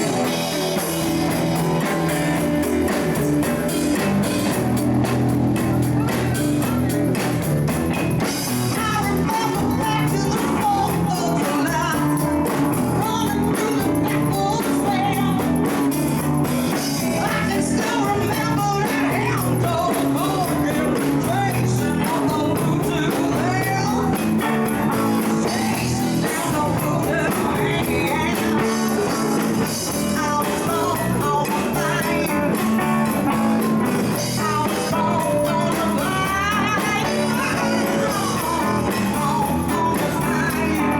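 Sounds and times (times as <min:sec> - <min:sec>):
bass: 0:00.0 - 0:40.9
drums playing: 0:00.0 - 0:40.9
electric guitar: 0:00.0 - 0:40.9
person singing: 0:00.0 - 0:40.9.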